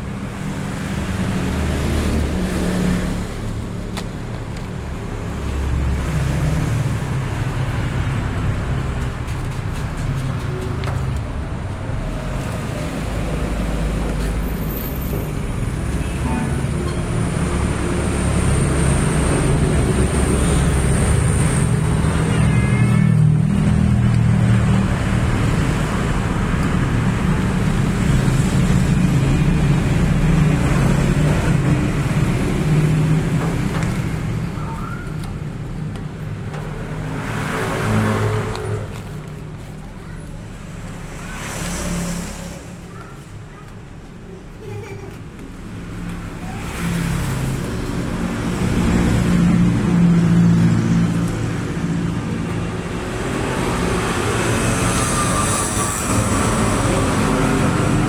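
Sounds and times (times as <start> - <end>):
low engine rumble of traffic: 0.0 - 58.0
vehicles passing: 0.0 - 58.0.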